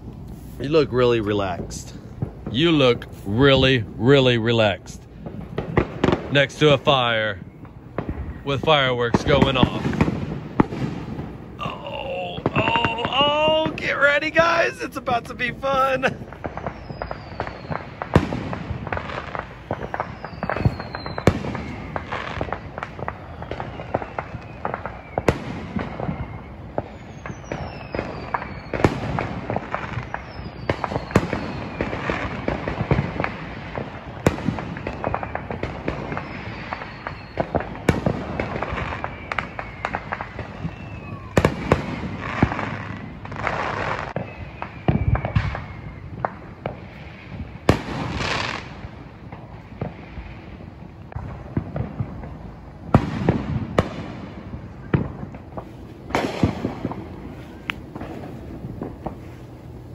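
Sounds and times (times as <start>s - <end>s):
distant fireworks bangs and crackles: 0.0s - 59.9s
falling firework whistles: 5.5s - 11.3s, 12.0s - 59.9s.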